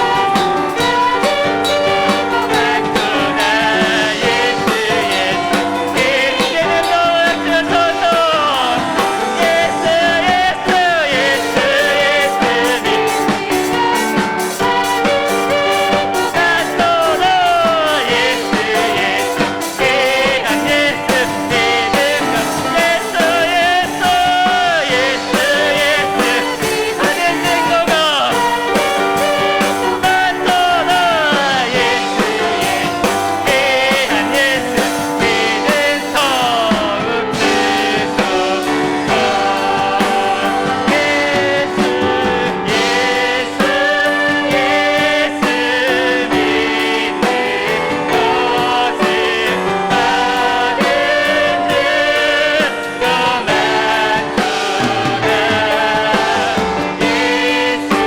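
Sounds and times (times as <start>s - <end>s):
drums: 0.0s - 58.0s
person singing melody: 0.0s - 58.0s
piano: 0.0s - 58.0s.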